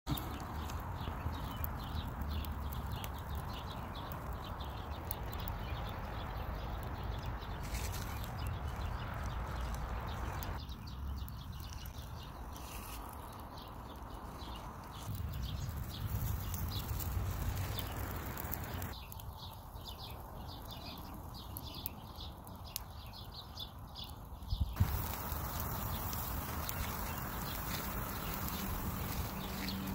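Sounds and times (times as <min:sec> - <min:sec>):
wood fire crackling and popping: 0:00.1 - 0:29.9.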